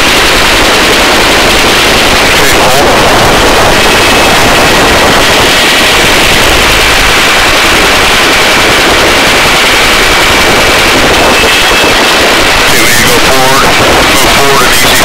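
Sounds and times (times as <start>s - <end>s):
helicopter rotor chopping roar: 0.0s - 15.0s
turbine whine: 0.0s - 15.0s.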